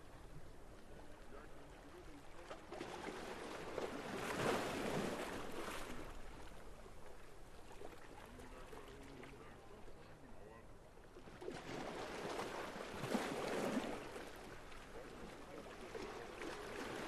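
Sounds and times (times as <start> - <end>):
seawater lapping and splashing: 0.0 - 17.0.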